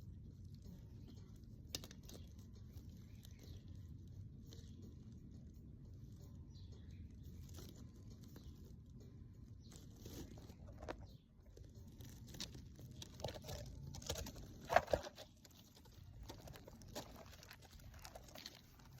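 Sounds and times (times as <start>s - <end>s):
brush scratching through fur: 0.0s - 19.0s.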